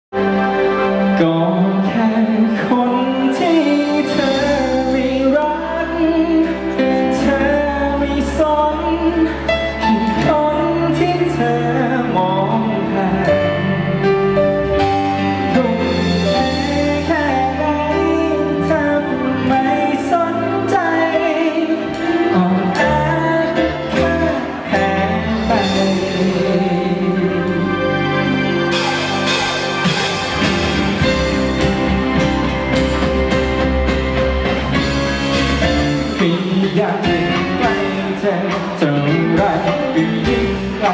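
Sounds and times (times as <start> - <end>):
person singing: 0.2 - 40.9
pop-rock band playing live: 0.2 - 40.9.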